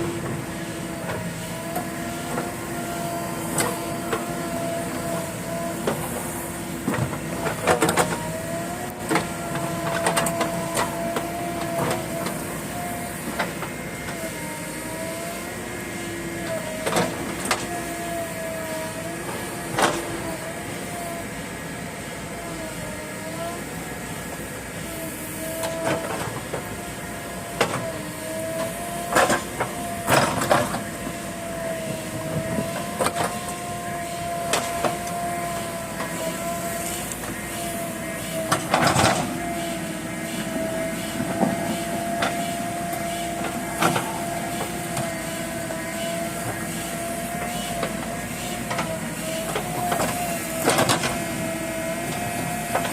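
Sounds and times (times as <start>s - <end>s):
backhoe engine running: 0.0s - 52.9s.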